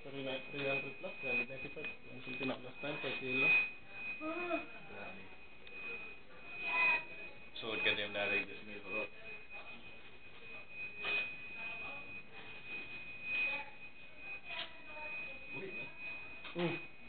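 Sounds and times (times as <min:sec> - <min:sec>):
faint voices: 0:00.0 - 0:17.0
high-pitched whine: 0:00.0 - 0:17.0.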